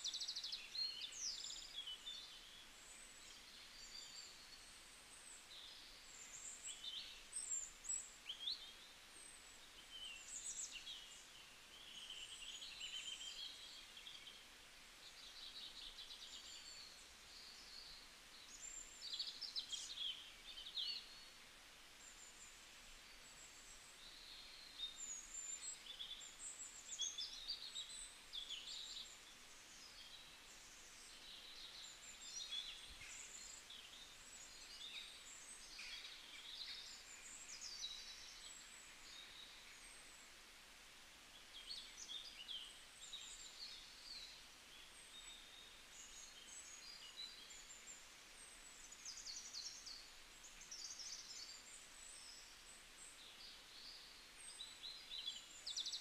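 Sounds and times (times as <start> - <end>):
quiet hiss: 0.0 - 56.0
small birds chirping: 0.0 - 56.0.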